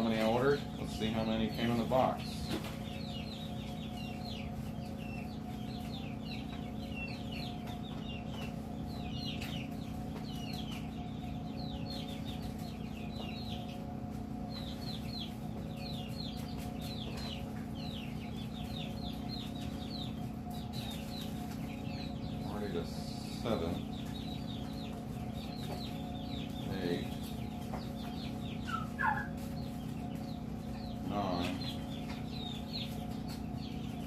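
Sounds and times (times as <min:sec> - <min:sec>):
chickens chirping and clucking: 0:00.0 - 0:34.0
low electrical hum: 0:00.0 - 0:34.0.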